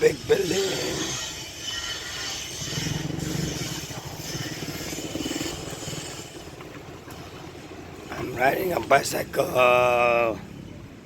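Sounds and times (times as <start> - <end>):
street noise: 0.0 - 11.0
vehicle engine running: 2.0 - 11.0.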